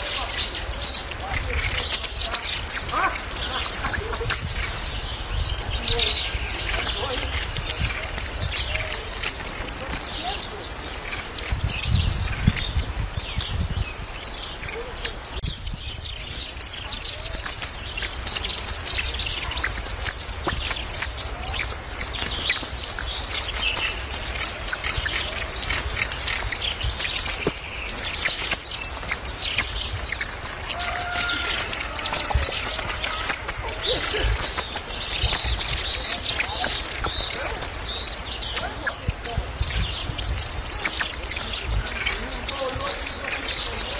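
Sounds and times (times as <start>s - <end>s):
bird high twittering song: 0.0s - 43.9s.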